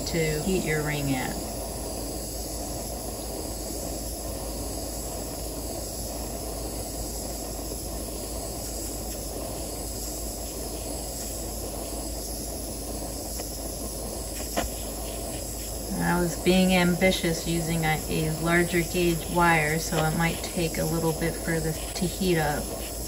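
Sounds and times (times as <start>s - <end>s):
micro torch flame running: 0.0s - 23.0s.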